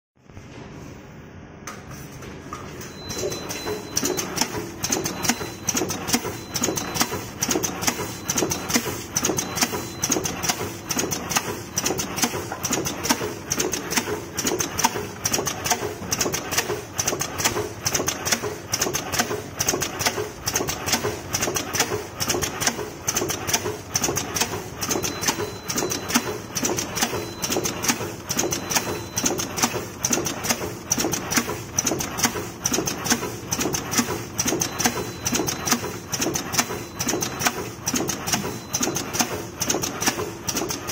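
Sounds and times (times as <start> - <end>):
packing machine clattering: 2.8 - 40.9.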